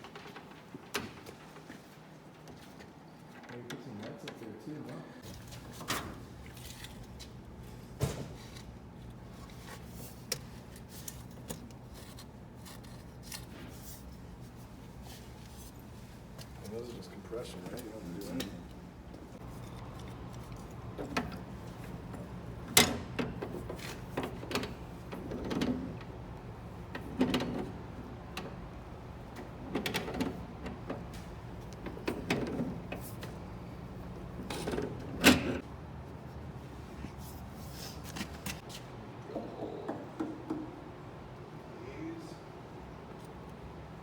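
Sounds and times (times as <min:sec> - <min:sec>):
steady low hum: 0:05.2 - 0:44.0.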